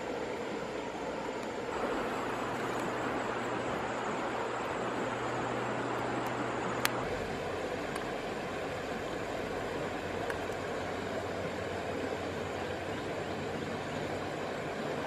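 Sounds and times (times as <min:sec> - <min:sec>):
river water rushing over stones: 0:00.0 - 0:15.0.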